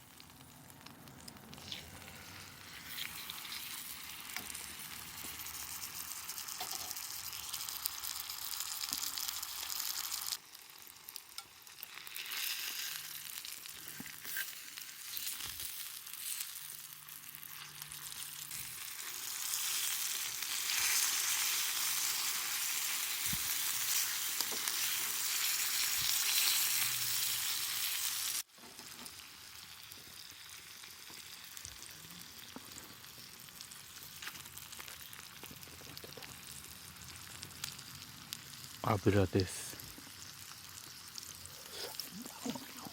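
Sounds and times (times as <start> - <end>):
fat sizzling and spitting: 0.1 - 42.9.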